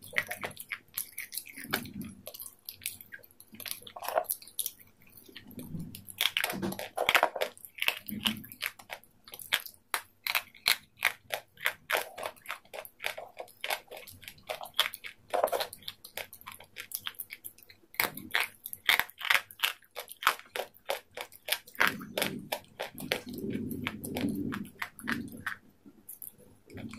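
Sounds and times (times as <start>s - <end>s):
crunchy chewing of salad greens: 0.0s - 26.9s.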